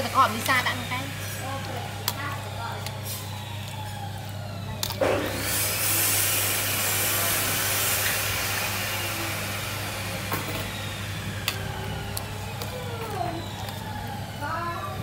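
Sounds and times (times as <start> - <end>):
pot simmering hiss: 0.0 - 14.6.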